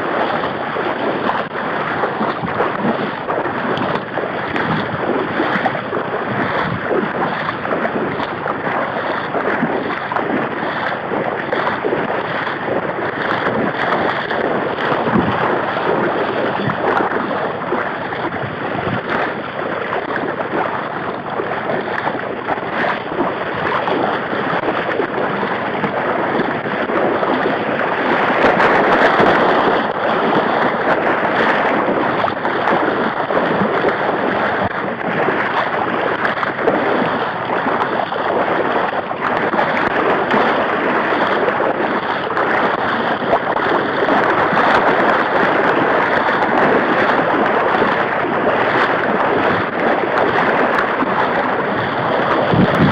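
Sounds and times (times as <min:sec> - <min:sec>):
dogs splashing through water: 0:00.0 - 0:52.9
wading through water: 0:00.0 - 0:52.9.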